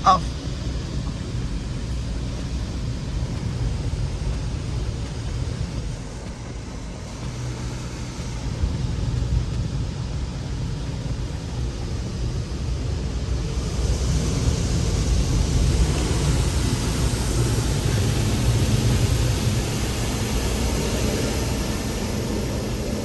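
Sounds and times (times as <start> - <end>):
car wash rushing water: 0.0 - 23.0.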